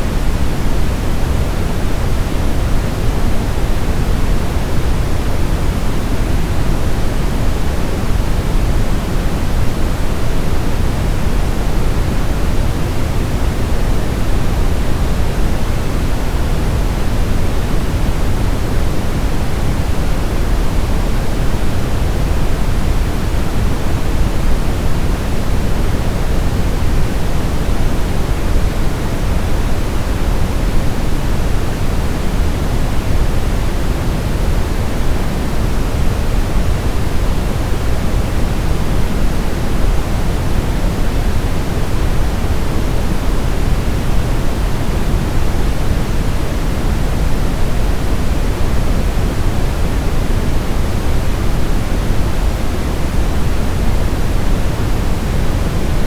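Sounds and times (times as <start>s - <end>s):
steady low hiss noise: 0.0s - 56.0s.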